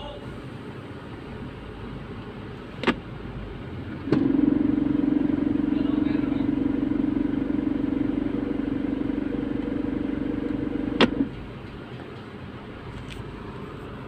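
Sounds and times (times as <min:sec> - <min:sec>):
car engine with buzzing rattle: 0:00.0 - 0:14.0.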